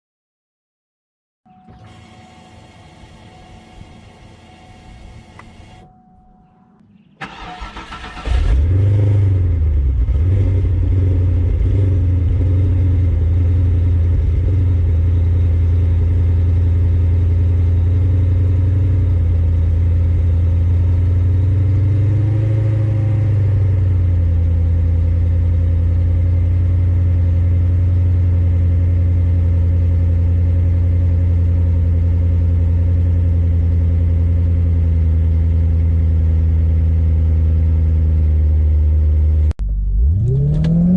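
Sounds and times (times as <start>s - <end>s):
car engine starting and idling: 1.5s - 40.9s.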